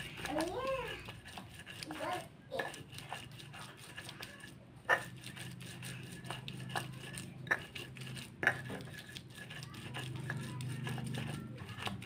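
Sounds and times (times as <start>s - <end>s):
stone pestle grinding on stone: 0.0s - 12.0s.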